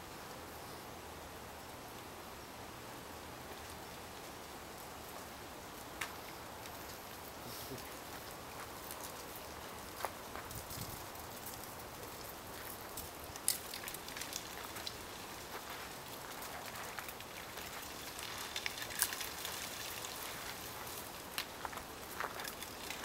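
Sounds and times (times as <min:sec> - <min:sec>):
steady hiss: 0:00.0 - 0:23.0
light clicks and crackles: 0:03.5 - 0:23.0.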